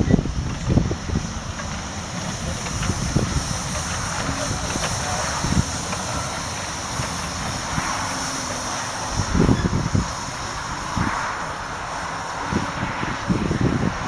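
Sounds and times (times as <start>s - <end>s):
steam locomotive rushing: 0.0s - 14.0s.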